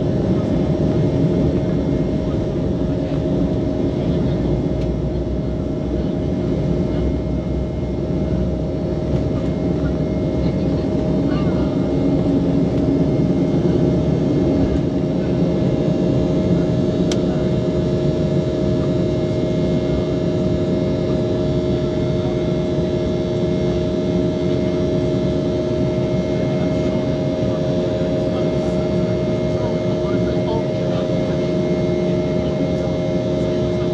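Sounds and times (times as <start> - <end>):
jet engines rushing in cabin: 0.0 - 33.9.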